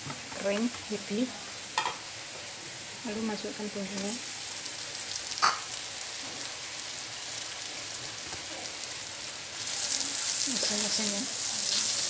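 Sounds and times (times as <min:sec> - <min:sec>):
spice paste sizzling in hot oil: 0:00.3 - 0:12.0.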